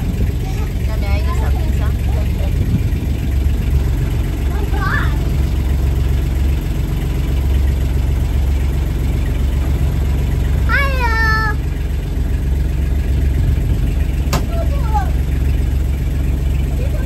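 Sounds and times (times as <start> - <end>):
boat diesel engine drone: 0.0 - 17.0.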